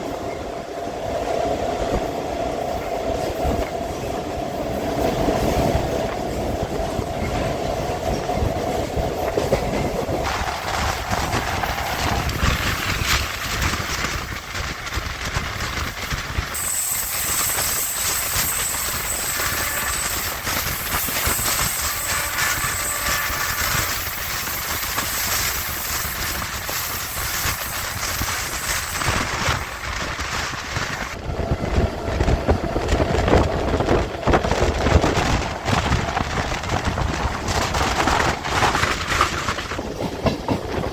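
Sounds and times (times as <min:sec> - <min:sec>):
train wheels clattering on rails: 0:00.0 - 0:40.9.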